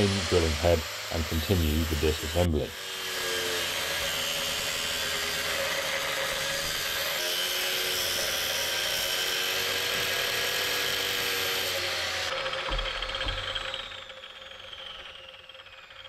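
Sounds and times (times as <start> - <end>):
angle grinder cutting metal: 0.0 - 16.0.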